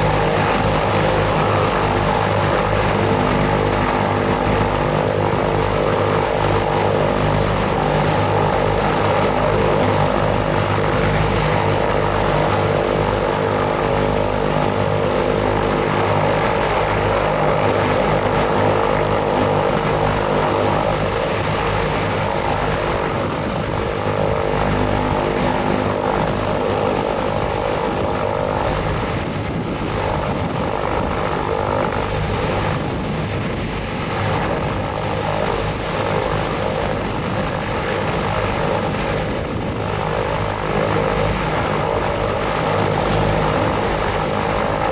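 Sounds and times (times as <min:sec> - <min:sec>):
aircraft piston engines running: 0:00.0 - 0:44.9.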